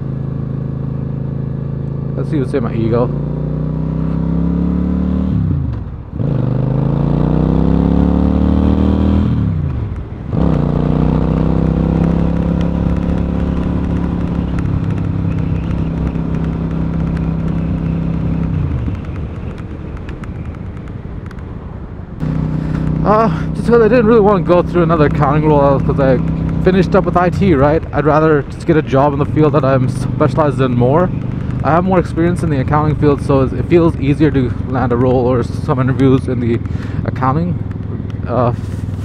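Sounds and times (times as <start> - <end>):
motorcycle engine shifting gears: 0.0 - 39.0.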